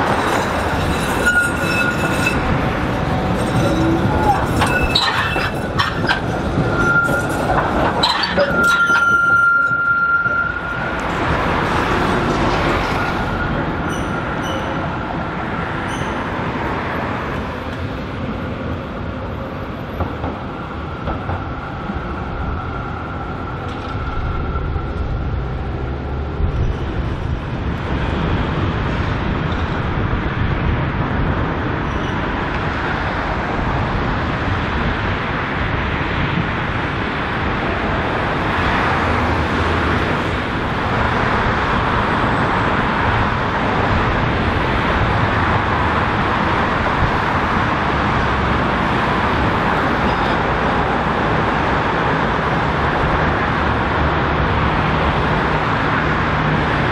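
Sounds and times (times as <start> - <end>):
street traffic: 0.0 - 56.9
trams running on tracks: 0.0 - 56.9.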